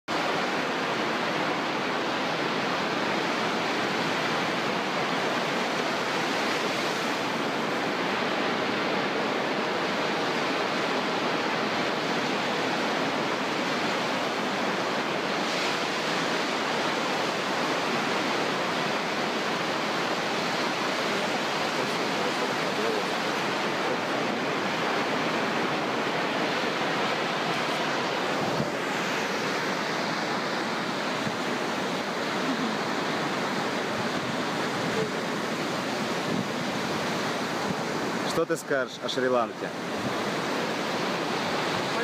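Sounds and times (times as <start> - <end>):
ocean surf breaking on a beach: 0.1 - 42.0.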